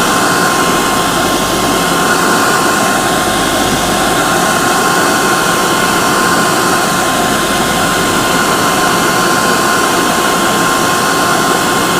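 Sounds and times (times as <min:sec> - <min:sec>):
hair dryer blowing: 0:00.0 - 0:11.9.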